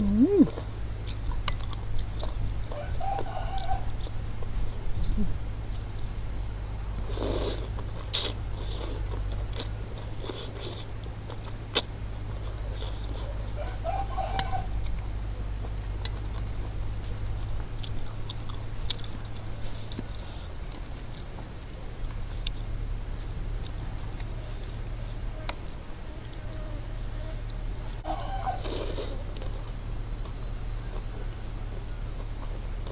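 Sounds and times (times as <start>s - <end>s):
chewing and mouth sounds: 0.0s - 6.2s, 7.0s - 26.6s, 27.4s - 31.1s
steady low hum: 0.0s - 32.9s.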